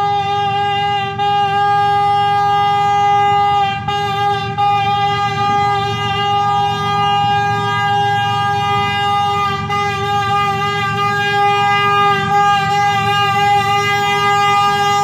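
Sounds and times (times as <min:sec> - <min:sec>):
locomotive air horn blast: 0:00.0 - 0:15.0
low rumble: 0:00.5 - 0:15.0.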